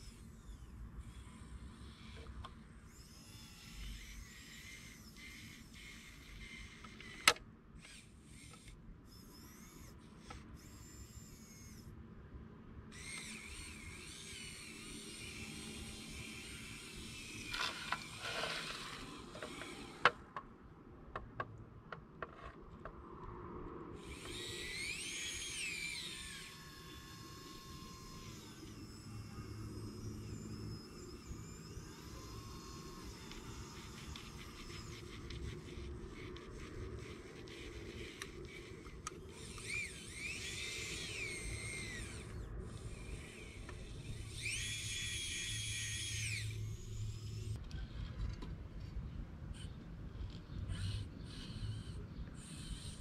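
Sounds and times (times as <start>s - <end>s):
small electric motors whining: 0.0s - 12.0s, 12.9s - 20.5s, 23.9s - 53.0s.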